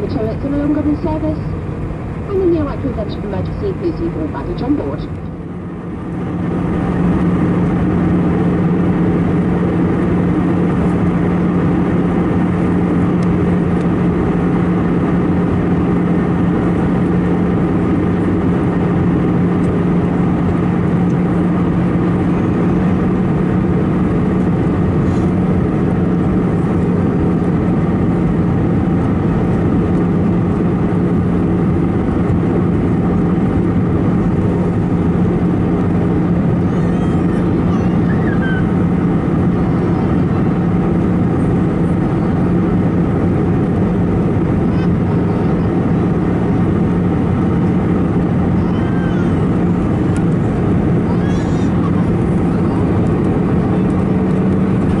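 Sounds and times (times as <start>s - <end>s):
aircraft engines droning: 0.0s - 55.0s
steady hum: 0.0s - 55.0s.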